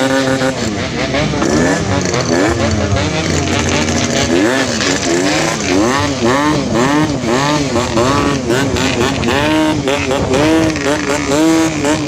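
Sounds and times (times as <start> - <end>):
two-stroke motorcycle revving: 0.0 - 12.0.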